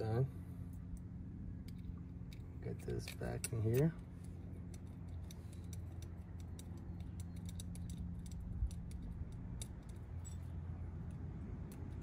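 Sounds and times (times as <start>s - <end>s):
low hum: 0.0s - 12.0s
small metal parts clicking: 0.8s - 12.0s.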